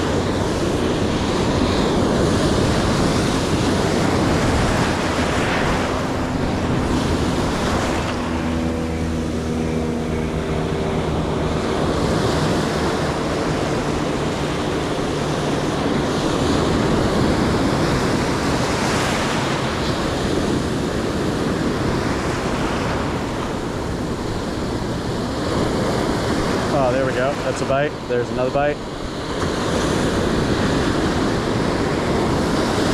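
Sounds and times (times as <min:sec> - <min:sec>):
ocean surf breaking: 0:00.0 - 0:32.9
wind buffeting microphone: 0:00.0 - 0:32.9.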